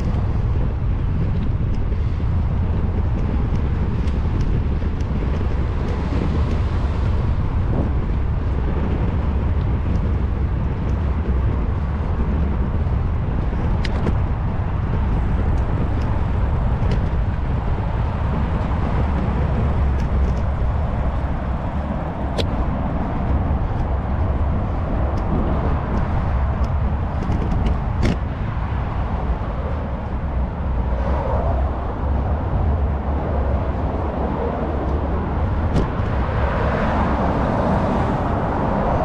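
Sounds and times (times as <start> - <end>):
bicycle tyre and road noise: 0.0 - 39.0
wind buffeting microphone: 0.0 - 39.0.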